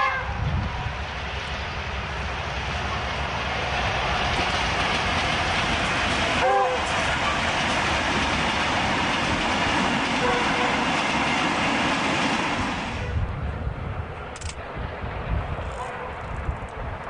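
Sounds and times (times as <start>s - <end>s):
train wagons rumbling past: 0.0s - 17.0s.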